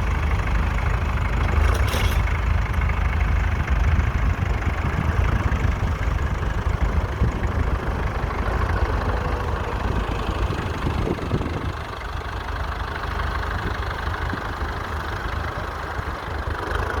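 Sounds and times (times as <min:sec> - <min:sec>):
tractor engine running at low revs: 0:00.0 - 0:17.0.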